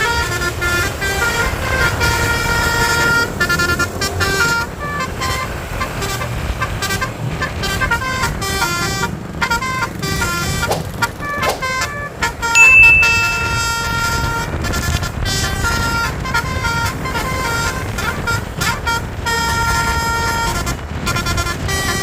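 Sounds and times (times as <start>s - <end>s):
multi-tone bus horn melody: 0.0s - 10.6s, 14.6s - 22.0s
engine and road rumble: 0.0s - 12.4s, 14.9s - 22.0s.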